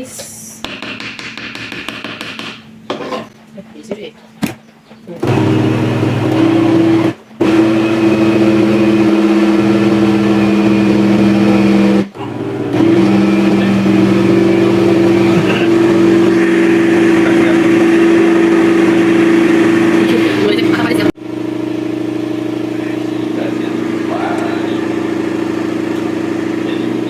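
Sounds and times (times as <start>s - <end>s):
electric blender motor whining: 5.2s - 27.0s.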